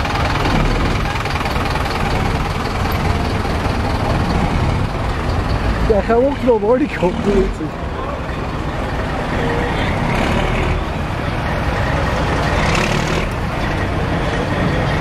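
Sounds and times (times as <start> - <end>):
heavy vehicle engine idling: 0.0 - 15.0.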